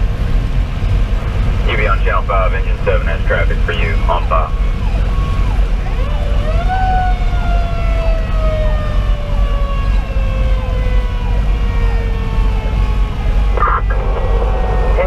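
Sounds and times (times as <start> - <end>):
diesel truck rumble: 0.0 - 15.0
road noise: 0.0 - 15.0.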